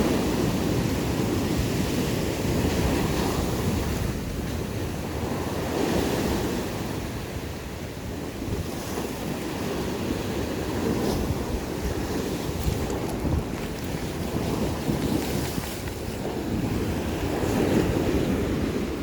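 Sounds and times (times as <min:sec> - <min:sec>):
waves washing against rocks: 0:00.0 - 0:19.0
wind buffeting microphone: 0:00.0 - 0:19.0.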